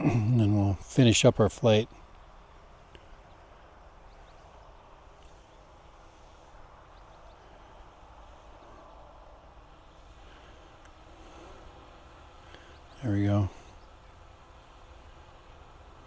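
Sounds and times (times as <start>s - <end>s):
low background hiss: 0.0s - 16.0s
faint bird chirps: 1.5s - 15.6s.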